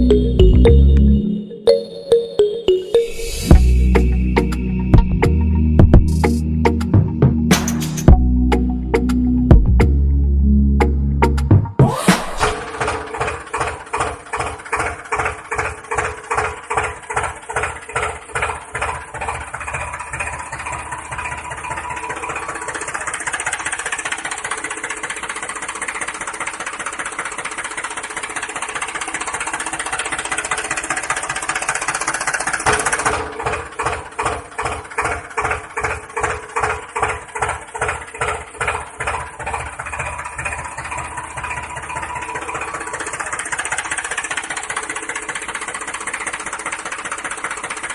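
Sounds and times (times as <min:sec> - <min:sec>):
tractor engine chugging: 0:00.0 - 0:47.9.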